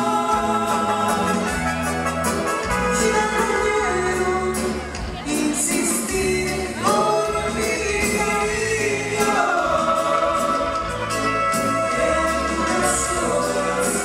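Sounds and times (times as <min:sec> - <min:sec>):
person singing: 0:00.0 - 0:14.0
steady bass line: 0:00.0 - 0:14.0.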